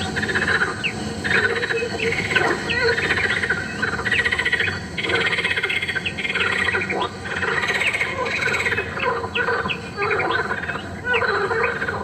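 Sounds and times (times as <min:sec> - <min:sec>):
insects trilling: 0:00.0 - 0:12.0
small birds chirping: 0:00.0 - 0:12.0.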